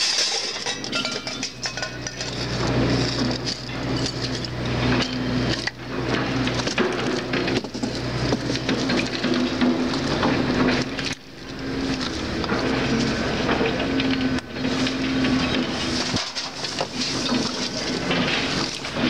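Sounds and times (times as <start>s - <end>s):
scrap metal clanking: 0.0s - 10.9s, 12.4s - 19.0s
engine humming: 0.0s - 19.0s.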